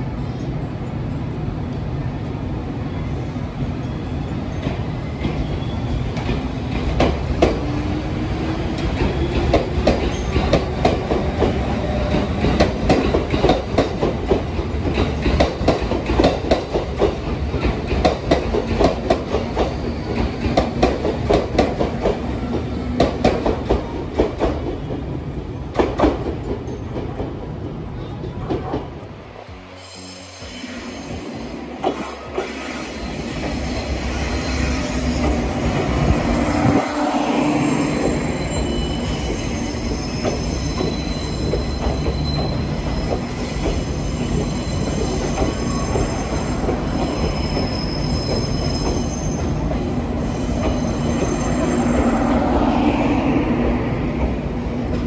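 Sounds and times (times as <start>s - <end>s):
low train rumble: 0.0s - 55.0s
train wheels clicking over rails: 0.3s - 55.0s.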